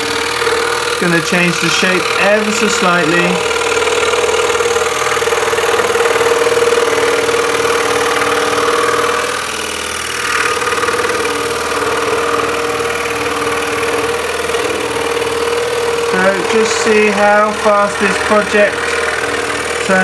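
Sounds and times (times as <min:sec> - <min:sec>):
scroll saw cutting wood: 0:00.0 - 0:20.0.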